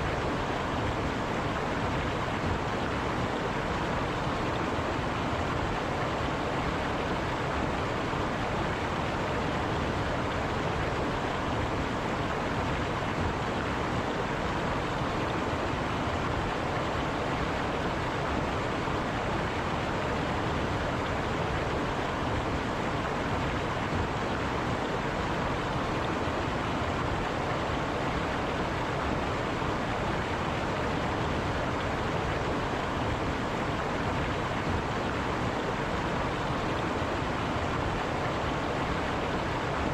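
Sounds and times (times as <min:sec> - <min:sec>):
river rushing water: 0:00.0 - 0:39.9.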